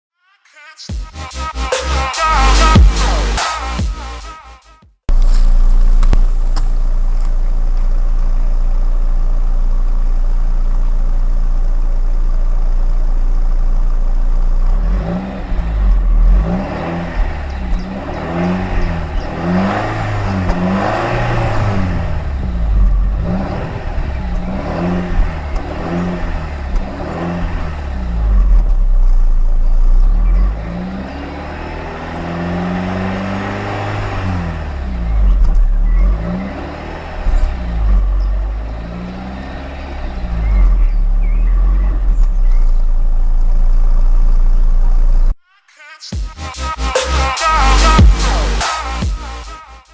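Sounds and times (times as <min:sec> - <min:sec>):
car engine idling and revving: 0:00.9 - 0:45.4, 0:46.2 - 0:49.9.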